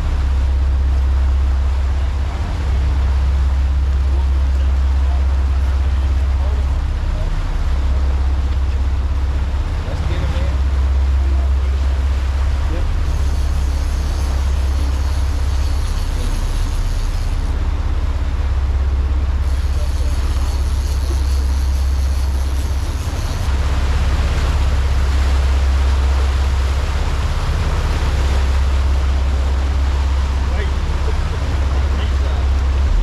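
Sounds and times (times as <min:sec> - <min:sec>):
boat engines droning: 0:00.0 - 0:33.0
rushing water hiss: 0:00.0 - 0:33.0.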